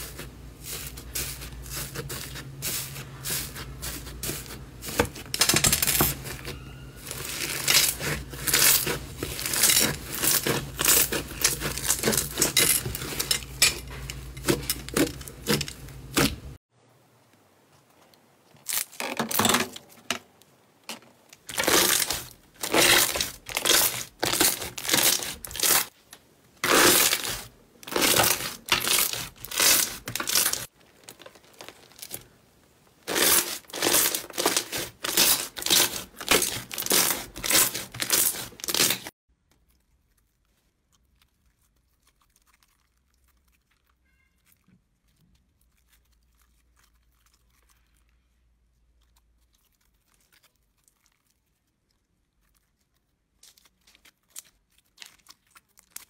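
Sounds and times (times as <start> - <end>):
slime crackling squishes: 0.0 - 16.6, 21.2 - 56.0.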